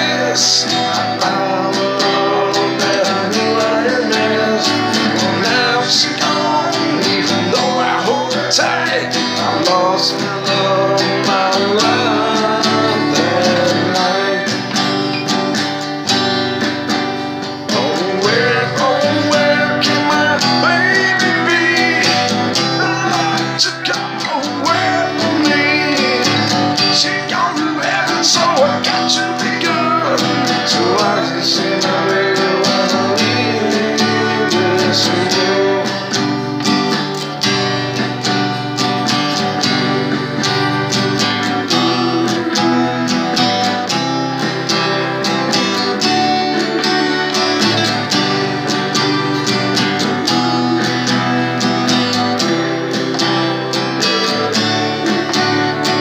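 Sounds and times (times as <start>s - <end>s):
man singing: 0.0s - 15.5s, 17.6s - 56.0s
acoustic guitar strumming: 0.0s - 56.0s.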